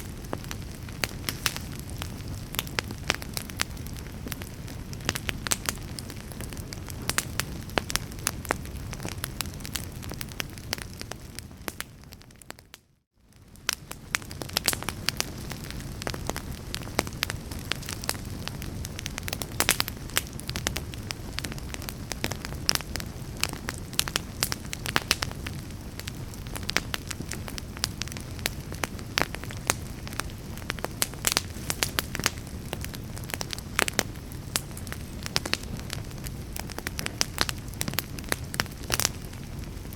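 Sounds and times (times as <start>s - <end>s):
wood crackling and popping: 0.0s - 39.9s
wood fire rushing: 0.1s - 11.3s, 13.7s - 39.9s.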